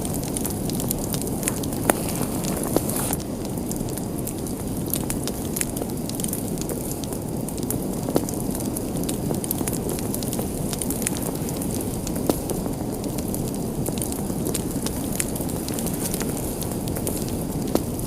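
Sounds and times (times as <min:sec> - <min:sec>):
fire crackles and pops: 0:00.0 - 0:18.0
fire rushing in fireplace: 0:00.0 - 0:18.0.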